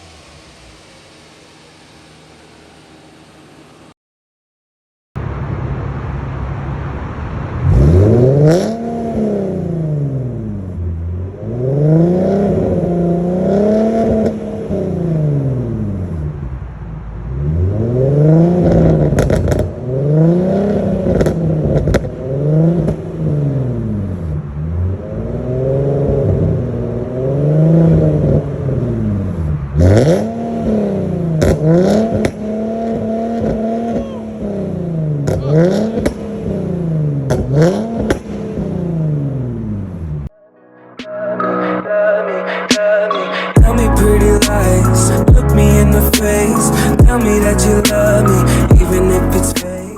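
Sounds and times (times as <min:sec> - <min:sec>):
car engine revving: 0:00.0 - 0:03.9, 0:05.2 - 0:40.3, 0:43.6 - 0:49.9.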